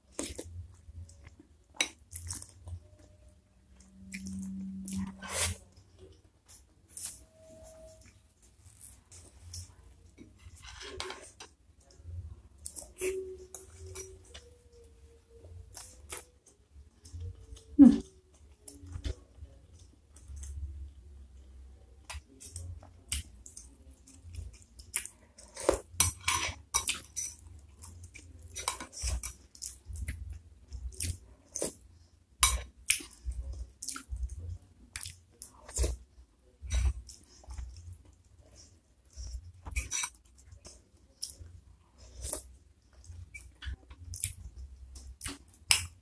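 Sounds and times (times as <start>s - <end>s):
chewing and wet mouth sounds: 0.0s - 7.2s, 7.8s - 46.0s.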